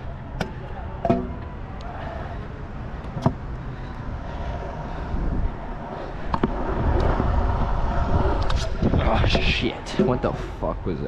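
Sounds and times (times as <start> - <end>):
scooter wheels rolling on concrete: 0.0 - 10.6
rumbling wind noise: 1.5 - 11.0.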